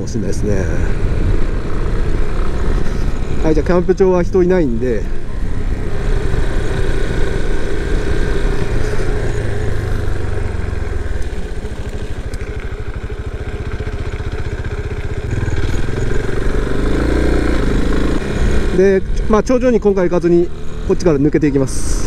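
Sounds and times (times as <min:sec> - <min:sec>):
single-cylinder engine running: 0:00.0 - 0:22.0.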